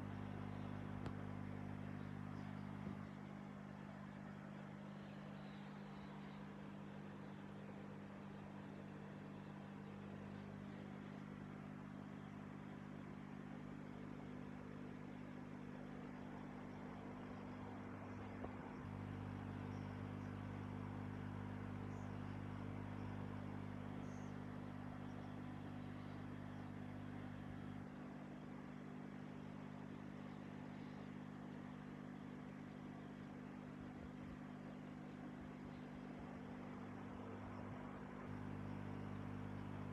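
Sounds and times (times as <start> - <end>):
aquarium filter pump hum: 0.0 - 39.9.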